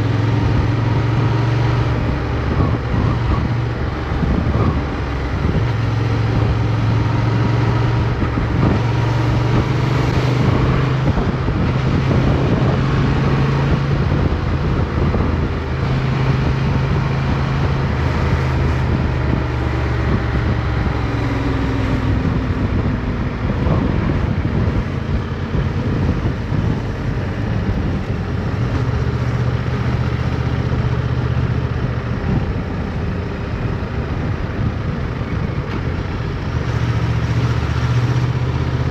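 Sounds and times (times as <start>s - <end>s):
rushing wind: 0.0s - 38.9s.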